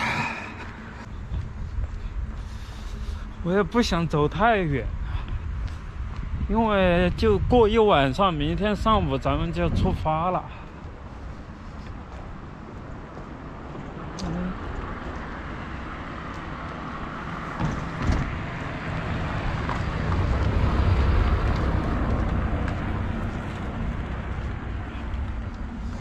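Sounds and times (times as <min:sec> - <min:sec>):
vehicles passing on road: 0:00.0 - 0:26.0.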